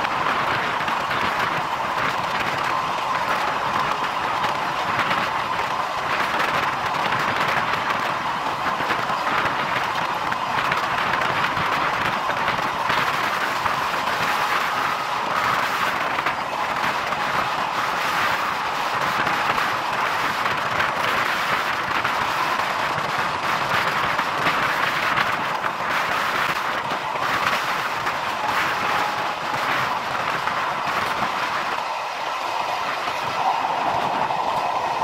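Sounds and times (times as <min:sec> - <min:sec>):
train wheels on rails: 0:00.0 - 0:35.0
wind rushing past microphone: 0:00.0 - 0:35.0.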